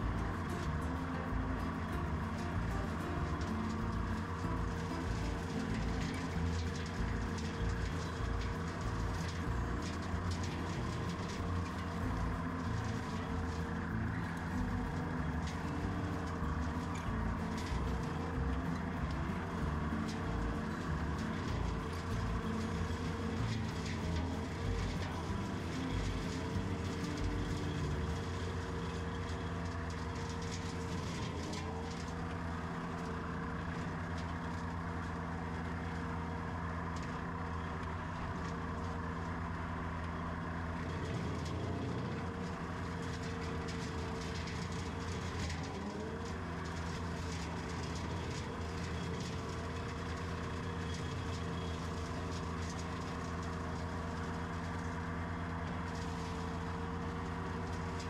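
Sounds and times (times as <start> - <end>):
loader engine running: 0.0 - 58.0.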